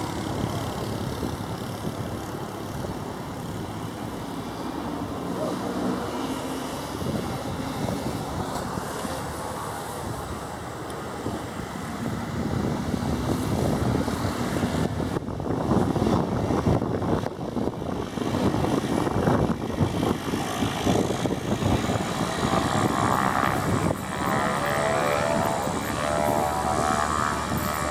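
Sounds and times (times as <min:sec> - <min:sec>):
pitched propeller drone: 0:00.0 - 0:27.9
turboprop engine and propeller: 0:00.0 - 0:27.9.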